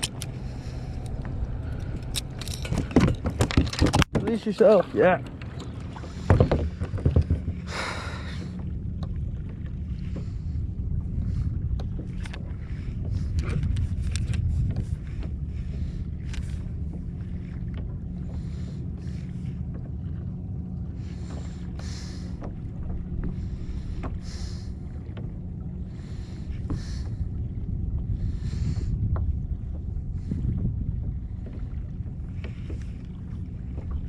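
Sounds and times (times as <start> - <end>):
water against kayak hull: 0.0 - 34.0
wind buffeting microphone: 0.0 - 34.0.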